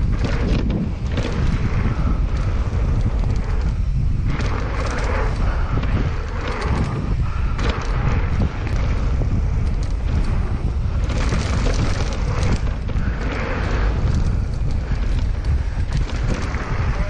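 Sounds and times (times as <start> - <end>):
bike tyres rattling on rough ground: 0.0 - 17.0
wind buffeting microphone: 0.0 - 17.0.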